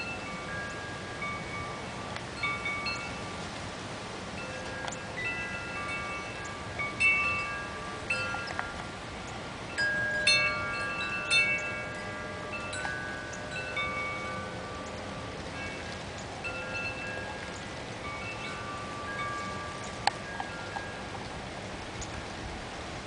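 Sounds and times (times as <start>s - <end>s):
wind chime ringing: 0.0s - 3.5s, 4.4s - 8.8s, 9.7s - 21.2s
steady background hiss: 0.0s - 23.0s.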